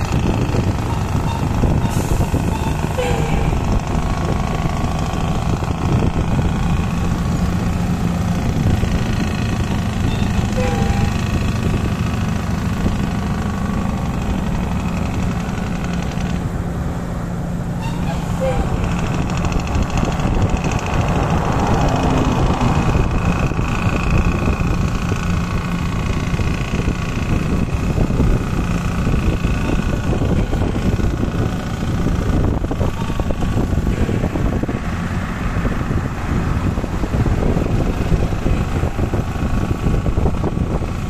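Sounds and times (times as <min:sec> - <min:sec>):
vehicle engine drone and road noise: 0:00.0 - 0:41.0.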